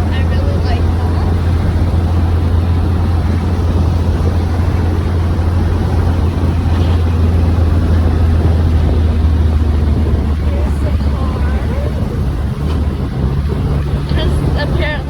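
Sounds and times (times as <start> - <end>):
car engine droning: 0.0 - 15.0
road and wind noise: 0.0 - 15.0.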